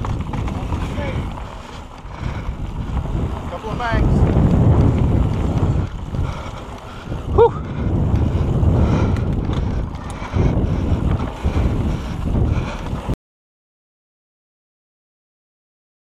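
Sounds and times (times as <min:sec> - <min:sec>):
low rumble from riding: 0:00.0 - 0:13.2
wind buffeting microphone: 0:00.0 - 0:13.2.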